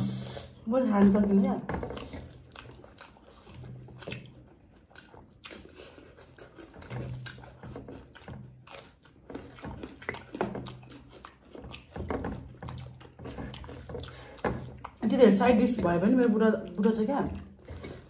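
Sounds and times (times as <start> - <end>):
fingers working food on plates: 0.8 - 18.0
people chewing with mouth smacks: 1.7 - 18.0.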